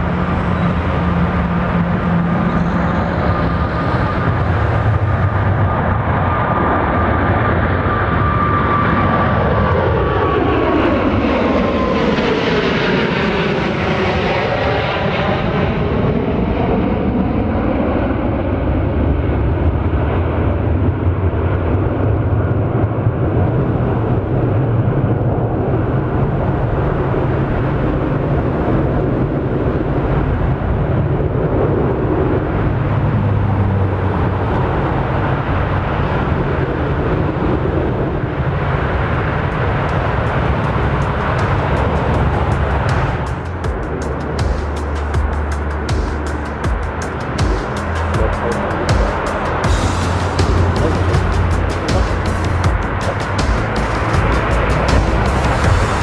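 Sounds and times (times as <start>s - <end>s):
low engine rumble: 0.0s - 27.6s, 29.9s - 56.0s
jet airliner passing overhead: 0.0s - 56.0s.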